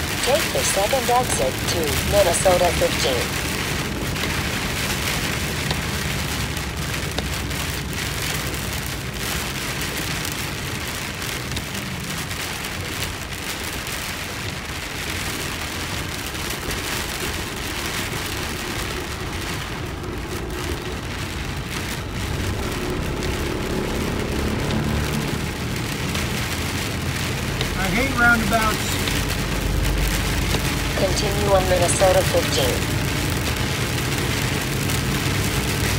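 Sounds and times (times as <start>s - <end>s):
heavy rain on car roof: 0.0s - 35.9s
tyres rumbling on wet road: 0.0s - 35.9s.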